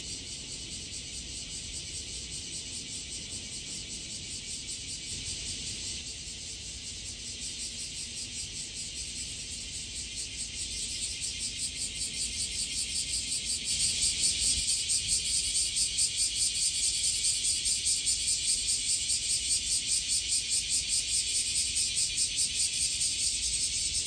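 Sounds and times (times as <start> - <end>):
cicadas singing: 0.0 - 24.0.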